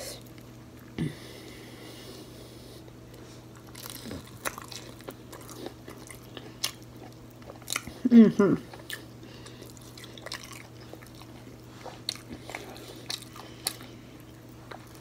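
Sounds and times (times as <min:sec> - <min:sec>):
low steady hum: 0:00.0 - 0:15.0
crunching and chewing: 0:00.1 - 0:01.7, 0:02.8 - 0:15.0.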